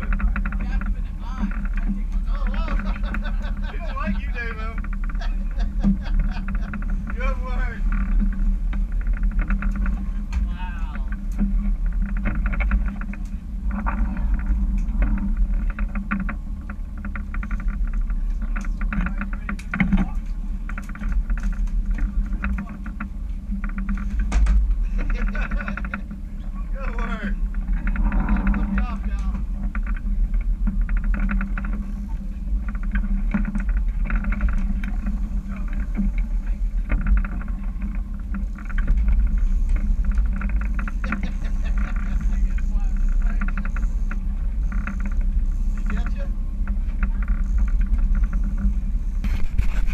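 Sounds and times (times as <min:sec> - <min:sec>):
boat engine drone: 0:00.0 - 0:49.9
clicks and rattles: 0:00.0 - 0:49.9.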